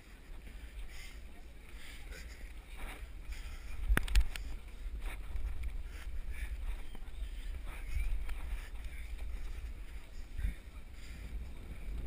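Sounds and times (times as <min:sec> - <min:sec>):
low wind rumble on microphone: 0:00.0 - 0:12.0.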